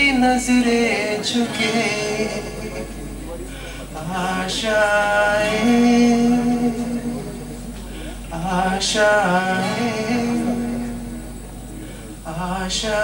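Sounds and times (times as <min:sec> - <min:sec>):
man singing: 0:00.0 - 0:11.5, 0:12.2 - 0:13.0
strummed acoustic guitar: 0:00.0 - 0:13.0.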